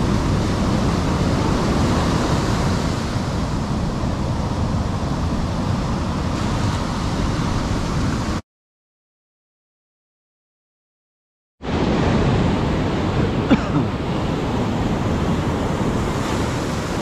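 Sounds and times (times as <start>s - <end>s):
surf waves breaking on beach: 0.0s - 8.4s, 11.6s - 17.0s.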